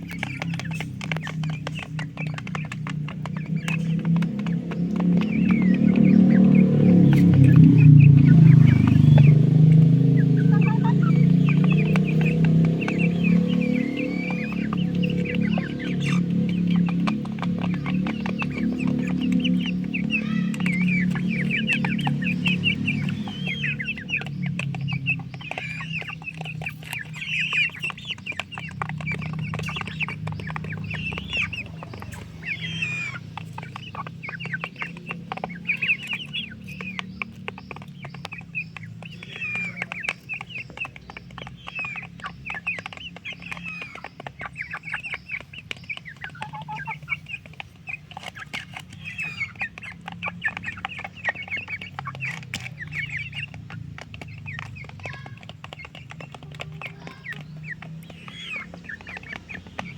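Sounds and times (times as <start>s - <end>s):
chickens clucking: 0.0s - 59.9s
chicks chirping: 0.0s - 59.9s.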